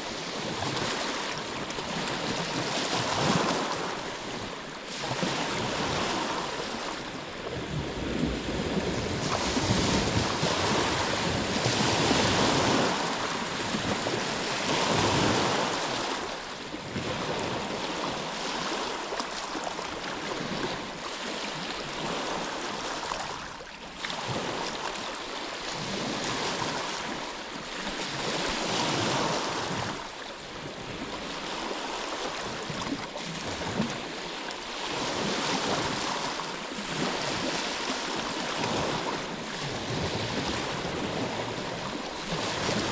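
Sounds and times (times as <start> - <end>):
ocean surf washing ashore: 0.0 - 42.9.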